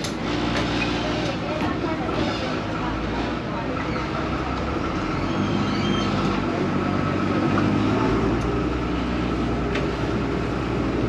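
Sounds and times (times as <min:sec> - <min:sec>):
boat diesel engine humming: 0:00.0 - 0:11.0.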